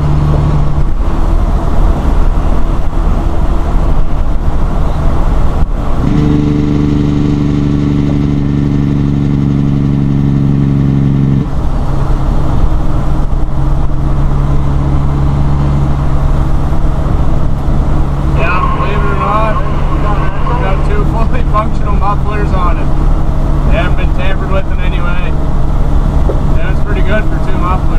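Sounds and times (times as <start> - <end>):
diesel truck engine droning: 0.0 - 27.9.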